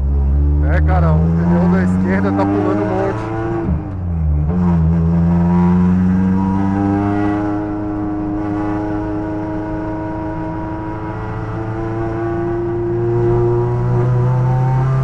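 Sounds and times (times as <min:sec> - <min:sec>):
race car engine under load: 0:00.0 - 0:15.0.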